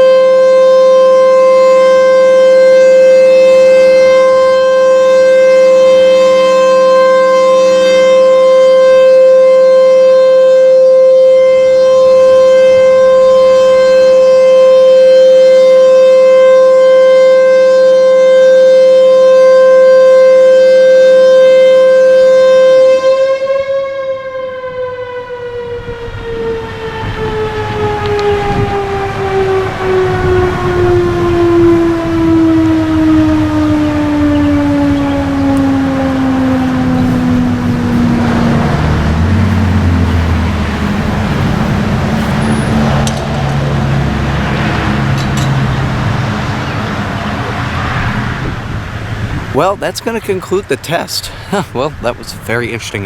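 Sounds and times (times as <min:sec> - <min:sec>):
tornado siren steady tone: 0:00.0 - 0:53.0.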